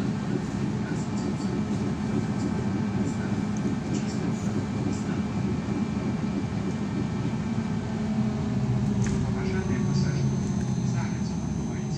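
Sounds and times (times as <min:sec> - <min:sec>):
low hum: 0:00.0 - 0:11.9
trolleybus cabin drone: 0:00.0 - 0:11.9.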